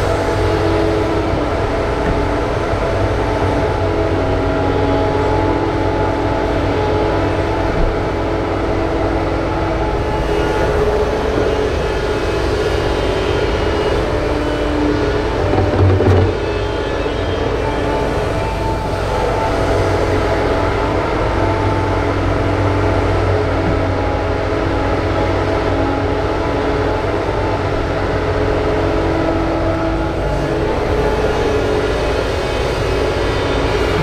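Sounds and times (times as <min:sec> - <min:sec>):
excavator engine and hydraulics: 0:00.0 - 0:34.0.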